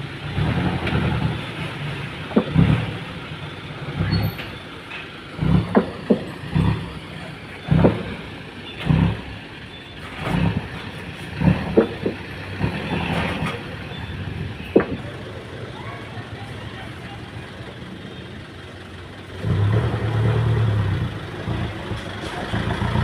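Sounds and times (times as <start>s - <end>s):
dump truck engine running: 0.0s - 23.0s.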